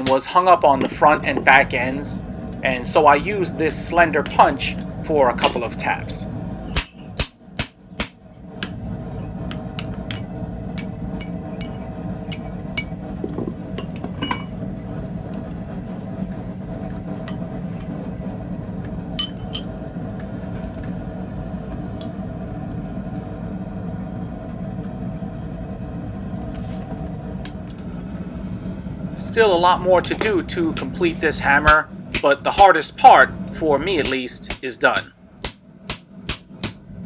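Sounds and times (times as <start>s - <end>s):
low mechanical drone: 0.0s - 37.0s.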